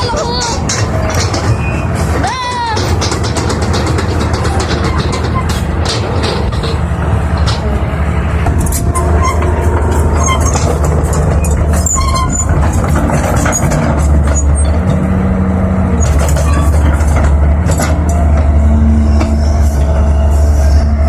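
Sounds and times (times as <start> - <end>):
metallic knocks and clanks: 0.0 - 20.2
excavator diesel engine rumbling: 0.0 - 21.0.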